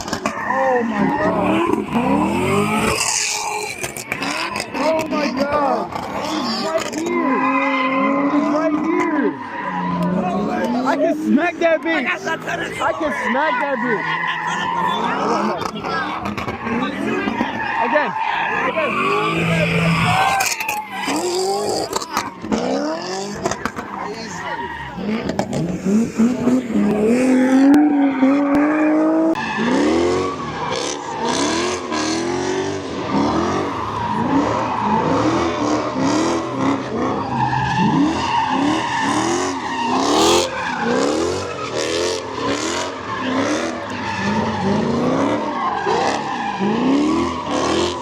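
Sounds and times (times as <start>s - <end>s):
car engine revving: 0.0s - 48.0s
tyres screeching: 0.0s - 48.0s.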